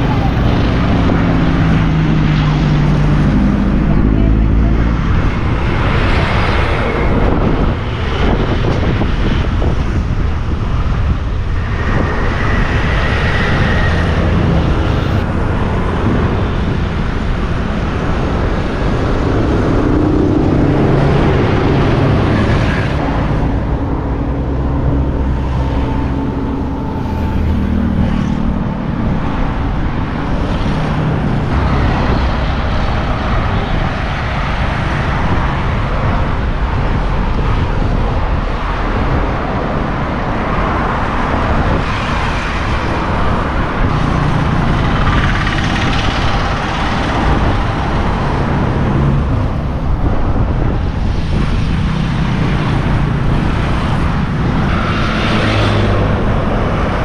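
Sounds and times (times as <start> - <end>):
road traffic rumble: 0.0 - 57.0
vehicles passing by: 0.0 - 57.0.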